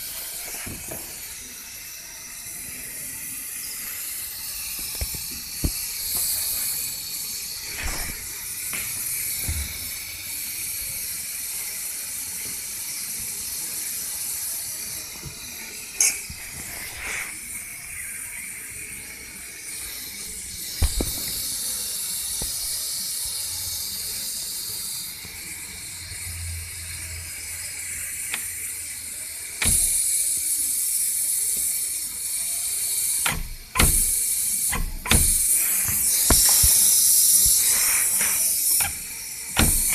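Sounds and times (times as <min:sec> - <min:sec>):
air-conditioning compressor hissing: 0:00.0 - 0:39.9.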